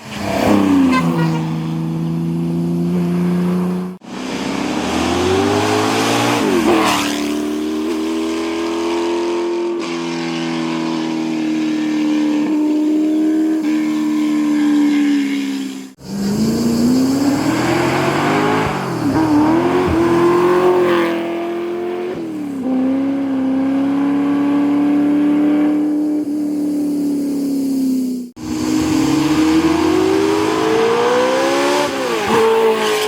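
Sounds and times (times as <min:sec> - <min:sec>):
racing car passing by: 0:00.0 - 0:26.4, 0:28.4 - 0:33.0
racing car engines accelerating: 0:00.0 - 0:26.7, 0:28.4 - 0:33.0.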